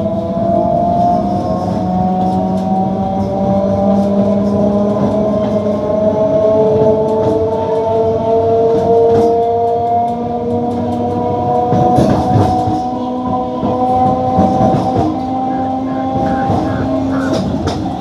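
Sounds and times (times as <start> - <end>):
wheels rumbling on rails: 0.0 - 18.0.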